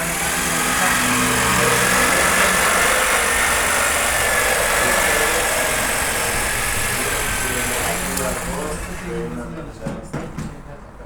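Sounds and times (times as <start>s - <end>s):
electric power tool running: 0.0s - 9.3s.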